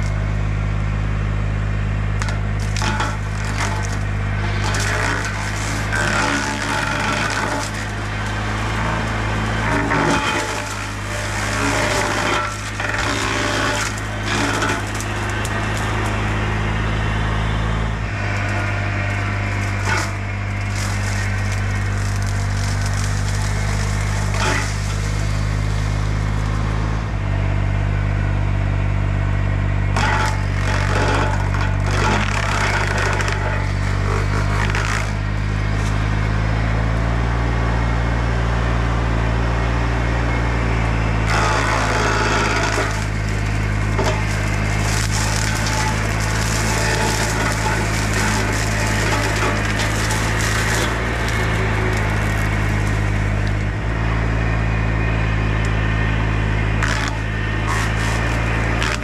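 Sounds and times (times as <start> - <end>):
diesel engine under load: 0.0 - 59.0
wood cracking and splintering: 2.1 - 26.9, 29.8 - 37.4, 40.8 - 54.4, 55.6 - 59.0.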